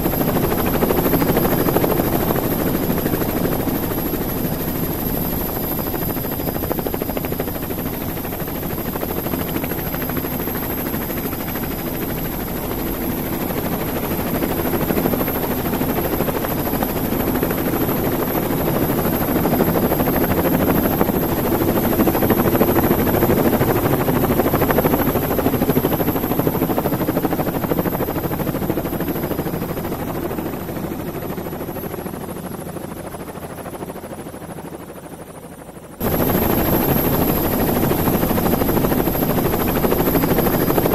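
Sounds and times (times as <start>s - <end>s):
model helicopter motor and rotor: 0.0s - 40.9s.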